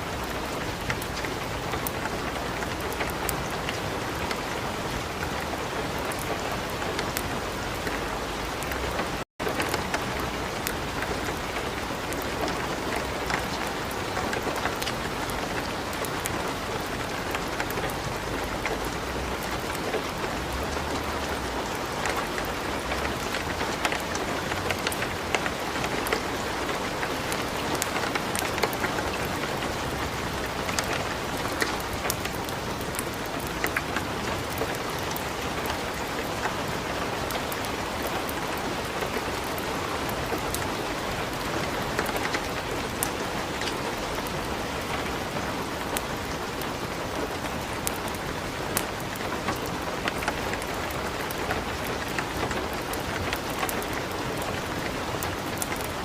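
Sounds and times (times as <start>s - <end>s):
light rain: 0.0s - 56.0s
wood fire crackling: 6.0s - 39.7s, 40.3s - 56.0s.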